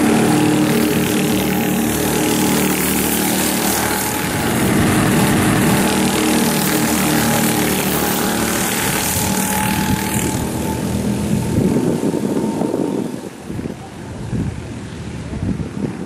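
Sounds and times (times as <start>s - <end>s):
go-kart engines buzzing: 0.0s - 14.0s.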